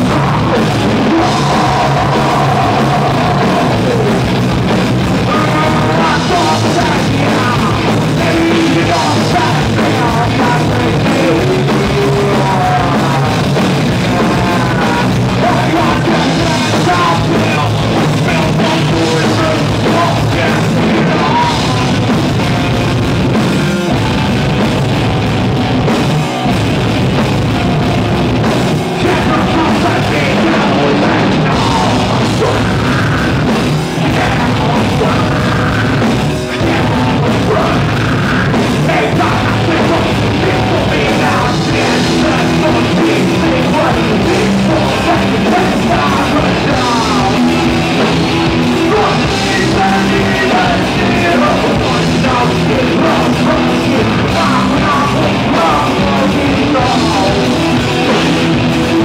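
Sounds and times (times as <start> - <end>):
person singing: 0.0 - 22.7, 27.6 - 59.0
distorted electric guitars: 0.0 - 59.0
drum kit: 0.0 - 59.0.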